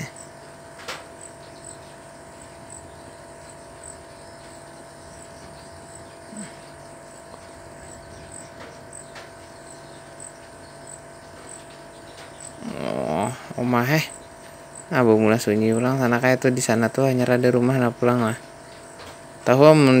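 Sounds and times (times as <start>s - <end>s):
motorcycle engine humming: 0.0s - 20.0s.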